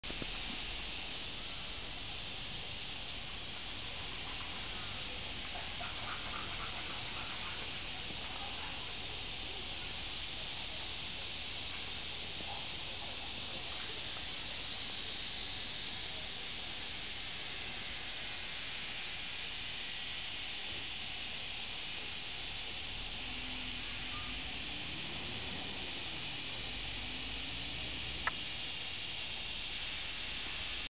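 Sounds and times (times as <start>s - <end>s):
cicadas buzzing: 0.0s - 30.9s.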